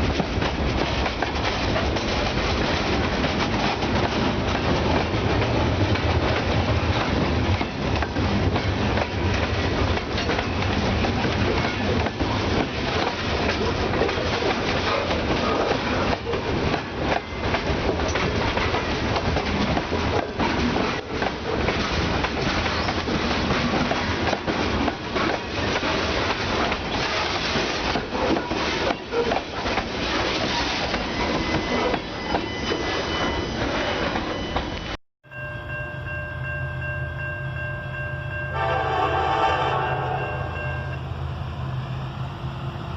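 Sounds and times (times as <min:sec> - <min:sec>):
freight train wheels on rails: 0:00.0 - 0:35.0.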